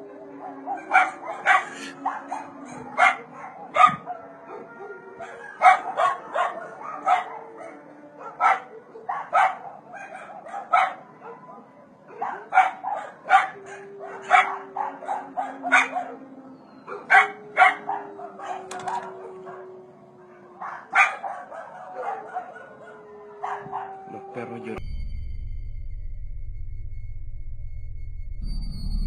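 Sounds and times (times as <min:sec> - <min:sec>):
dogs barking: 0:00.0 - 0:24.8.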